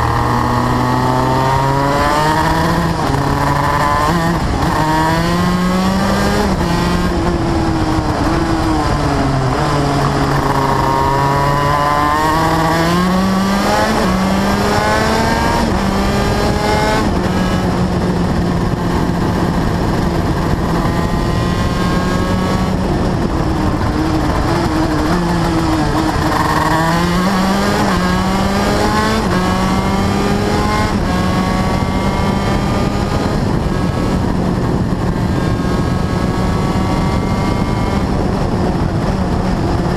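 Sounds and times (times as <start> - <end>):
race car engine: 0.0 - 39.9
wind rush: 0.0 - 39.9.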